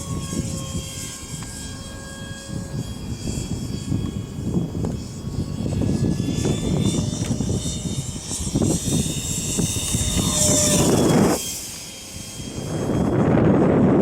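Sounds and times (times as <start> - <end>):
electric ducted fan whining: 0.0 - 14.0
wind buffeting microphone: 0.0 - 14.0.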